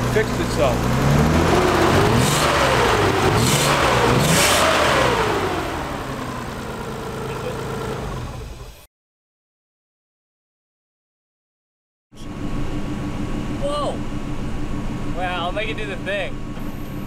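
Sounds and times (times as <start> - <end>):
car engine revving and idling: 0.0 - 8.8, 12.2 - 17.0.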